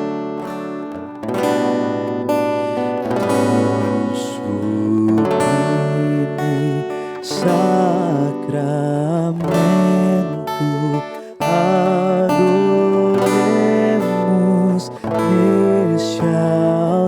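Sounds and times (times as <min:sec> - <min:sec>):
strummed acoustic guitar: 0:00.0 - 0:17.0
sustained melody line: 0:00.0 - 0:17.0.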